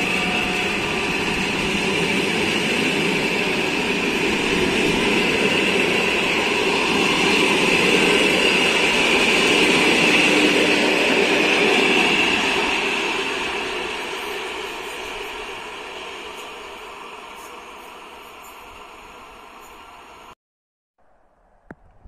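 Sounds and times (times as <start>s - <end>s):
train wheels rumbling on rails: 0.0s - 20.4s.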